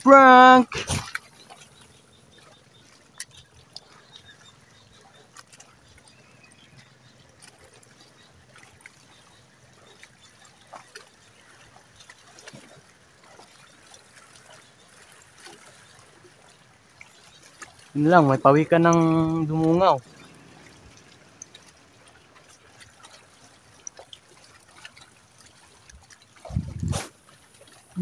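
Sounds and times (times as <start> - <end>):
small waves lapping: 0.0 - 28.0.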